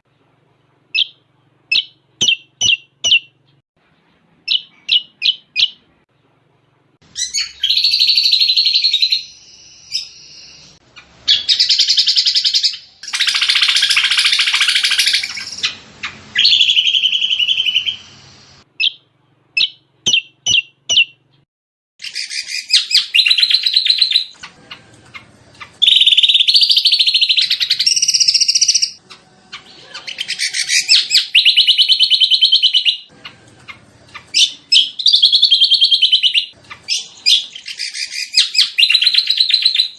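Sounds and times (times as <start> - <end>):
bird song with chattering phrases: 0.9 - 5.9, 7.1 - 21.4, 22.0 - 39.9.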